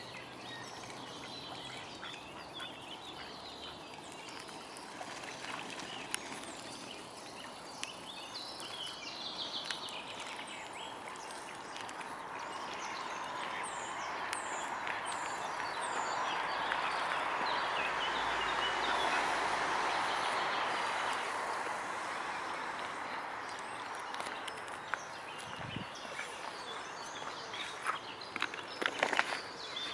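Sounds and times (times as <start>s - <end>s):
even outdoor rush: 0.0s - 29.9s
small birds chirping: 0.0s - 29.9s.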